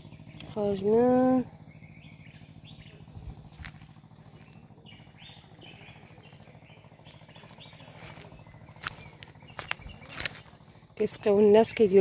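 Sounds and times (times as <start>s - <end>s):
faint low rumble: 0.0s - 11.5s
small birds chirping: 0.0s - 12.0s.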